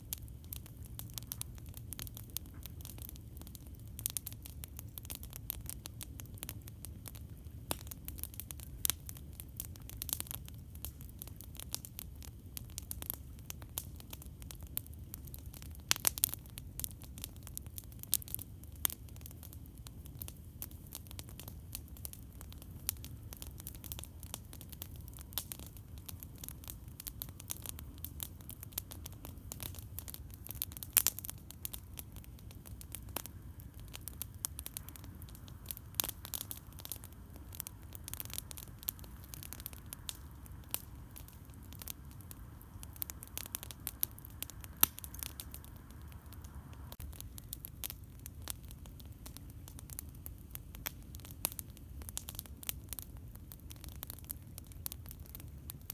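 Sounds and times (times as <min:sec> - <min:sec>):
fire low rumble: 0:00.0 - 0:55.9
campfire pops and snaps: 0:00.1 - 0:55.9.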